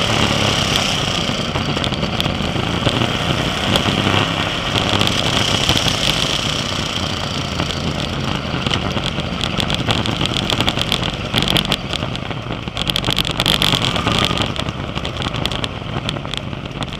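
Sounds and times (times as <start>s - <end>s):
crackling noise: 0.0s - 16.9s
race car engine running: 0.0s - 16.9s.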